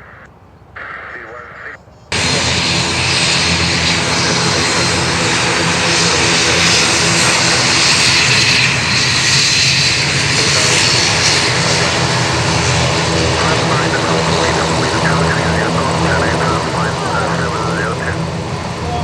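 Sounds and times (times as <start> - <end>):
propeller plane engines droning: 0.0 - 19.0.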